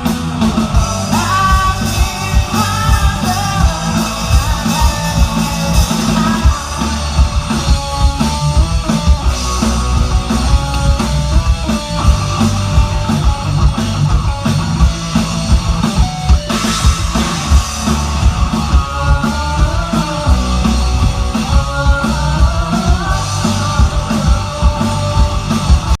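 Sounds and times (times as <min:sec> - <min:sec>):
loud rock music: 0:00.0 - 0:26.0.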